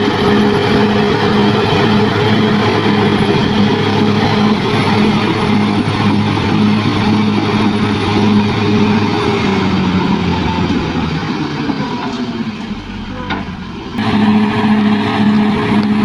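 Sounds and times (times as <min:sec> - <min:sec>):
bulldozer engine droning: 0:00.0 - 0:16.0.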